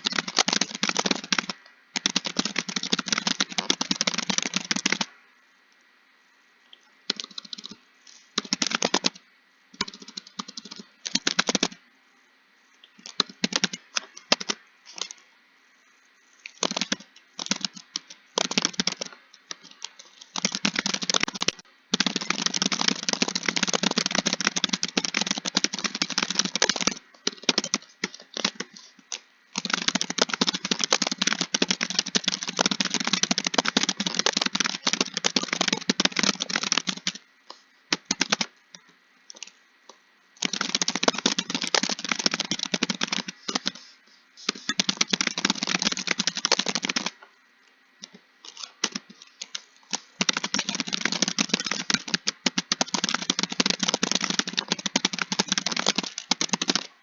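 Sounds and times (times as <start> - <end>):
fast typing on keyboard: 0.0 - 5.1, 7.1 - 9.2, 9.8 - 11.8, 13.0 - 15.2, 16.4 - 39.6, 40.4 - 47.2, 48.0 - 57.0.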